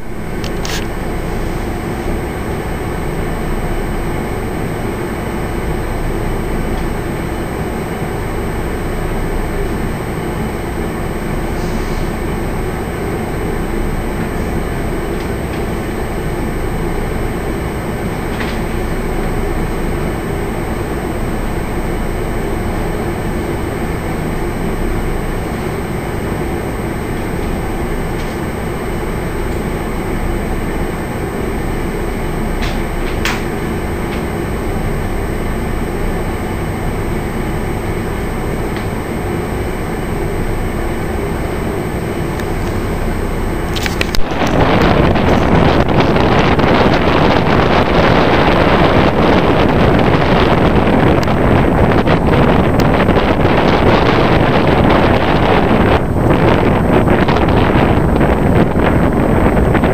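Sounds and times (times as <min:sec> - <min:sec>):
ship engines rumbling: 0:00.0 - 0:59.9.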